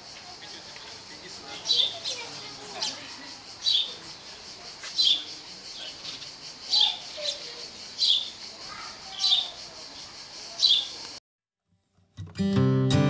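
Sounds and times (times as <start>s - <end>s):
bird chirping: 0.0s - 11.2s
faint outdoor background: 0.0s - 13.0s.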